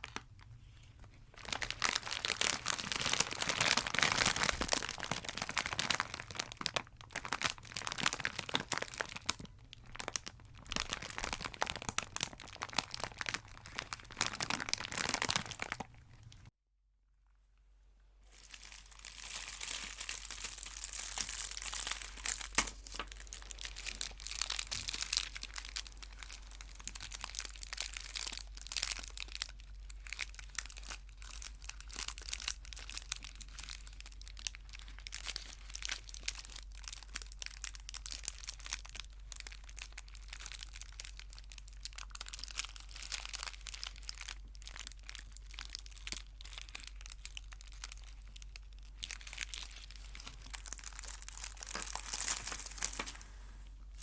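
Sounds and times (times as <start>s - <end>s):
wrappers crinkling: 0.0s - 16.5s, 18.2s - 54.0s.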